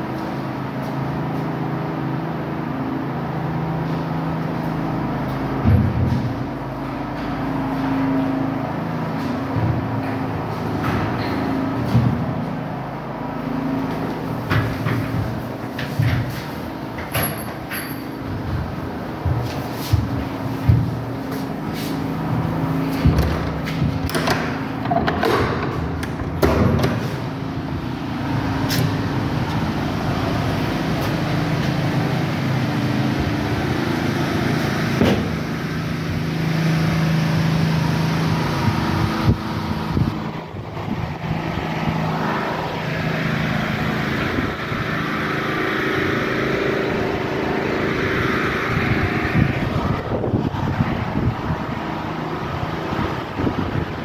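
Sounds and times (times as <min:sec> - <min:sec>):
noisy rumble: 0:00.0 - 0:54.0.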